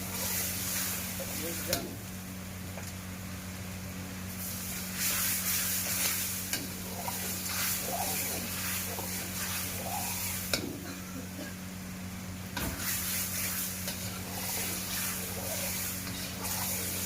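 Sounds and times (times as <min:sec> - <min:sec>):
chicken sizzling in a pan: 0:00.0 - 0:02.4, 0:03.1 - 0:17.0
steady low hum: 0:00.0 - 0:17.0.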